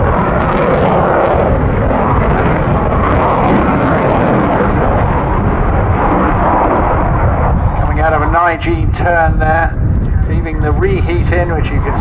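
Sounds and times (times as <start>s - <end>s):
loud jet noise: 0.0s - 12.0s.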